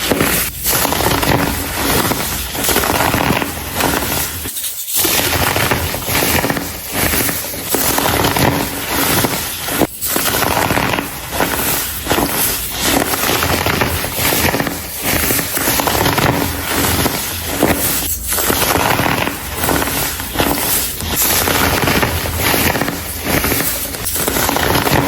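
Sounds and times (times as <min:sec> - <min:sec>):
baking soda crumbling and crunching: 0:00.0 - 0:25.0.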